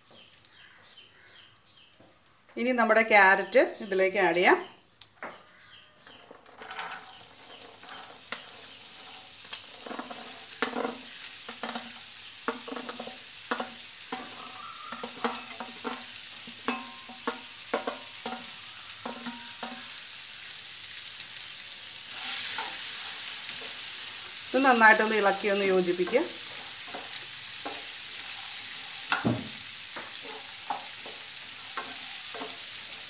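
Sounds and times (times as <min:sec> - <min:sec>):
carrots sizzling in a frying pan: 0:00.0 - 0:33.0.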